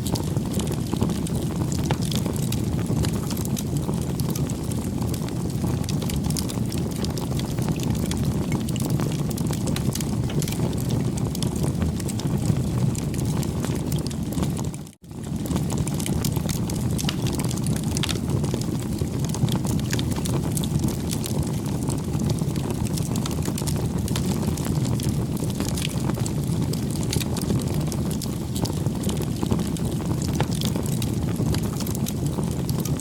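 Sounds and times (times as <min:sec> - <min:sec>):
rush of flames: 0:00.0 - 0:33.0
wood crackling and popping: 0:00.0 - 0:33.0.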